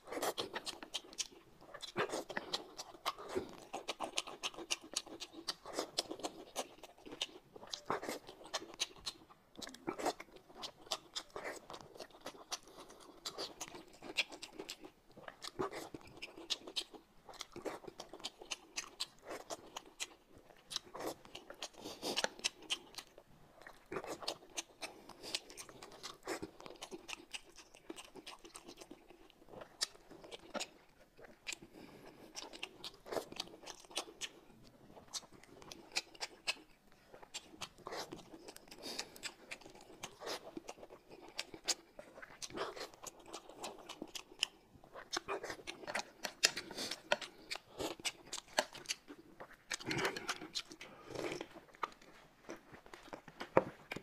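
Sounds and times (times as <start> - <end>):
wet chewing and mouth smacks: 0.0 - 54.0.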